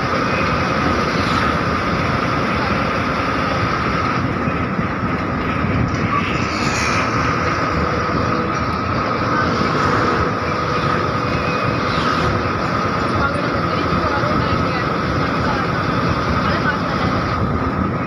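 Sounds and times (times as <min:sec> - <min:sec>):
bus engine and road rumble: 0:00.0 - 0:18.0
constant high whine: 0:00.0 - 0:18.0.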